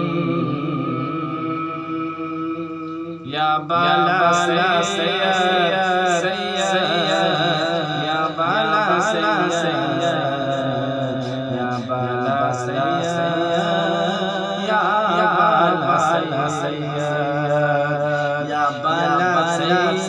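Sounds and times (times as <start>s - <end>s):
man singing devotional song: 0.0s - 20.0s.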